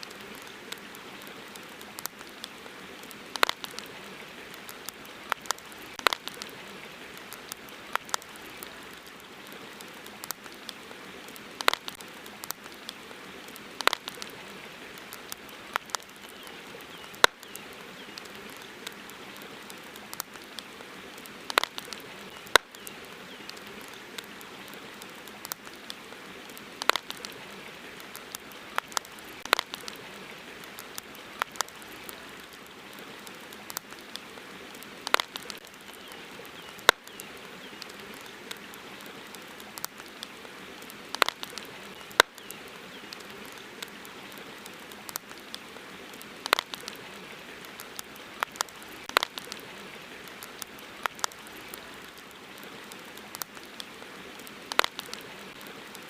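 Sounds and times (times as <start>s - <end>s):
campfire crackling and popping: 0.0s - 56.0s
steady hiss: 0.0s - 56.0s.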